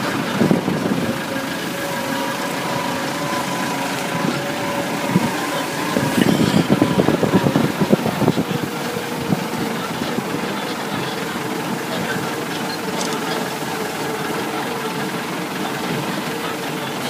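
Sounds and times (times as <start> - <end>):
steady engine hum: 0.0 - 17.0.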